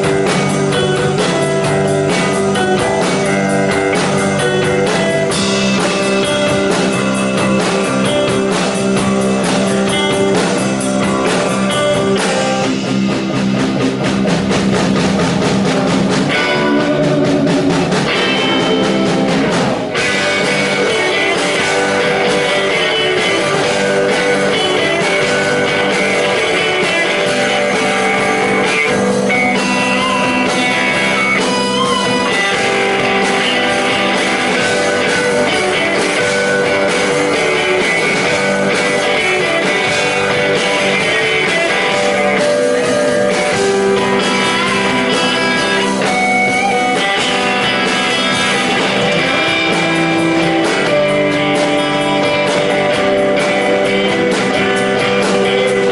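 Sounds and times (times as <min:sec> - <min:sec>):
live rock band: 0:00.0 - 0:55.9
sustained electric guitar notes: 0:00.0 - 0:55.9.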